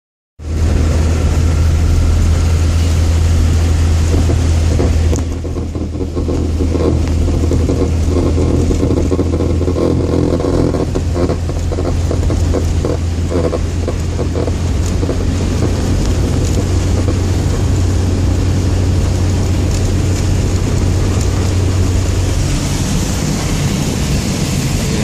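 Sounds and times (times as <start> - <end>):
car running with low hum: 0.4 - 25.0.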